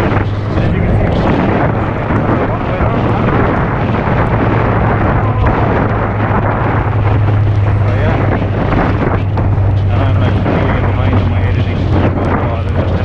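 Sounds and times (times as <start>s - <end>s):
motorcycle engine humming: 0.0s - 13.0s
wind buffeting microphone: 0.0s - 13.0s.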